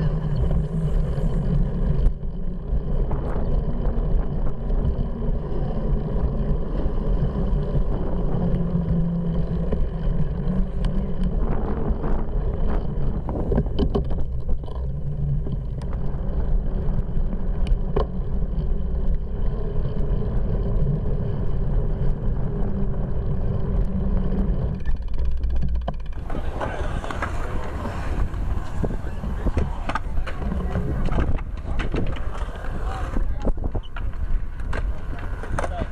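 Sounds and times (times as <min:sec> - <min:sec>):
bicycle rolling on pavement: 0:00.0 - 0:35.9
hissy outdoor ambience: 0:00.0 - 0:35.9
wind buffeting microphone: 0:00.0 - 0:35.9.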